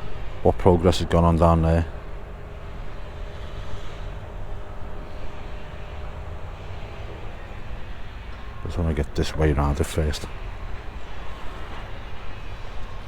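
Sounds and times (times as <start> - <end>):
low urban background rumble: 0.0 - 13.0.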